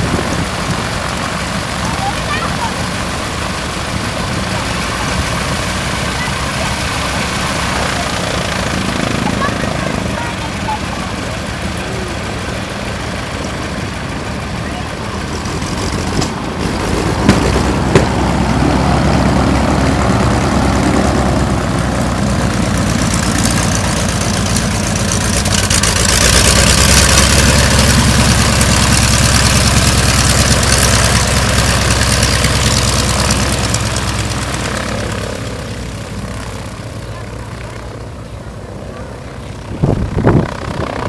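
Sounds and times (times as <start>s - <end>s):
biplane radial engines droning: 0.0s - 41.0s.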